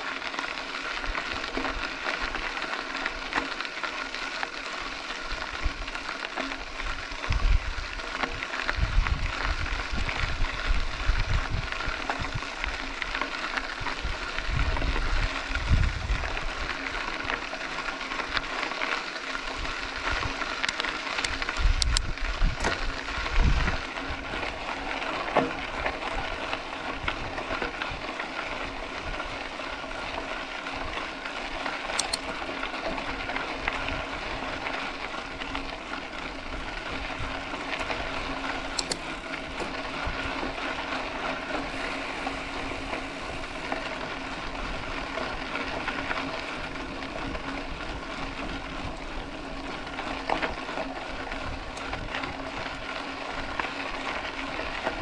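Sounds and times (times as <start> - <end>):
tyre and wind noise: 4.8 - 55.0
bike clicks: 10.2 - 55.0.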